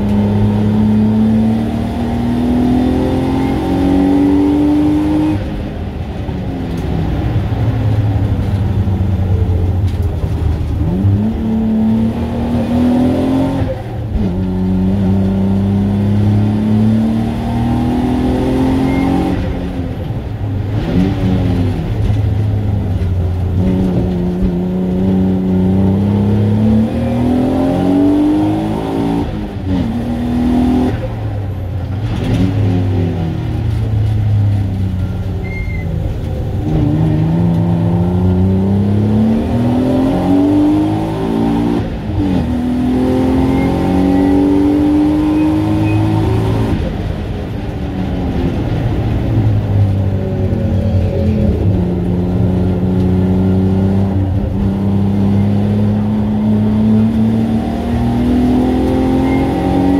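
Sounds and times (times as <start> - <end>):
race car engine revving: 0.0 - 6.0, 9.9 - 34.5, 36.0 - 59.9.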